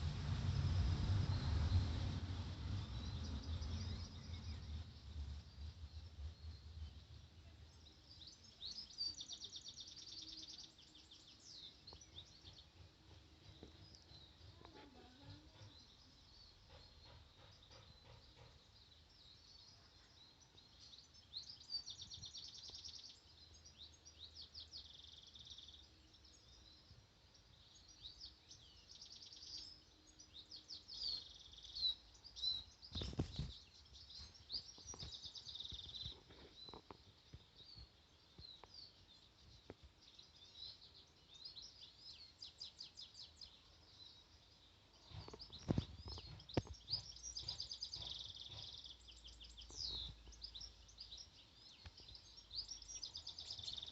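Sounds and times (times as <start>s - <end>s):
small birds singing and chirping: 0.0s - 53.9s.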